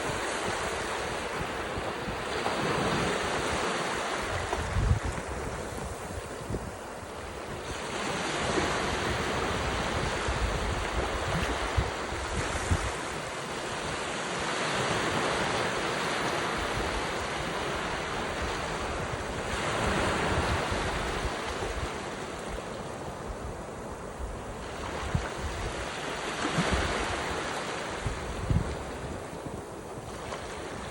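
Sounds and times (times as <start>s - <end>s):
waves breaking on shore: 0.0s - 30.9s
wind buffeting microphone: 0.0s - 30.9s.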